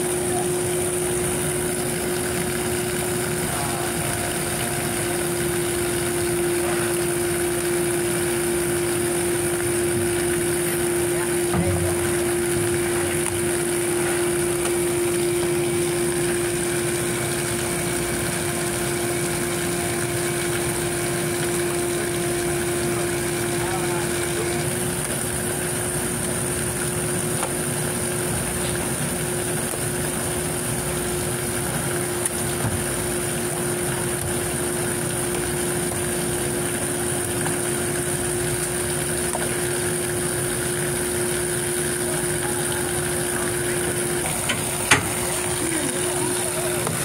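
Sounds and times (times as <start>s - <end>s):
machine engine hum: 0.0s - 47.0s.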